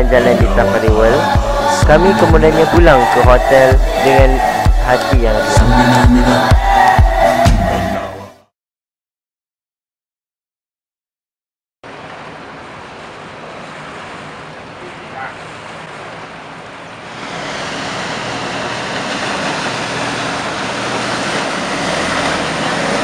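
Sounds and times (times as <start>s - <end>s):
boat engine running: 0.0s - 8.3s, 11.9s - 23.0s
boat wake washing: 0.0s - 8.4s, 11.8s - 23.0s.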